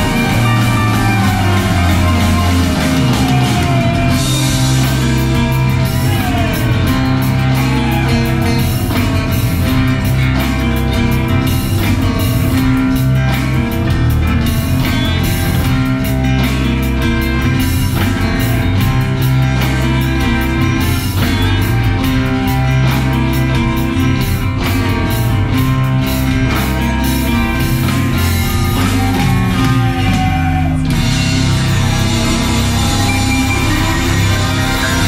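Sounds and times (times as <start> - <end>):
live band playing: 0.0 - 35.0.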